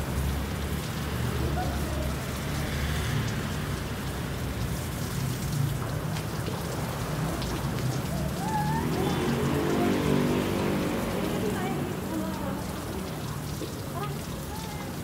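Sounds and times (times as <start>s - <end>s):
shower water splashing: 0.0s - 15.0s.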